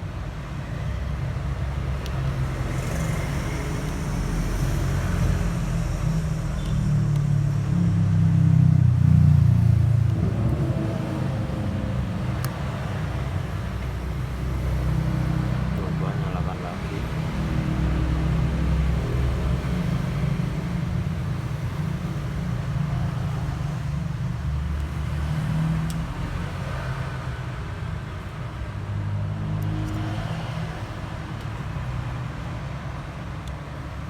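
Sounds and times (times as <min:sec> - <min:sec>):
motor traffic rumble: 0:00.0 - 0:34.0.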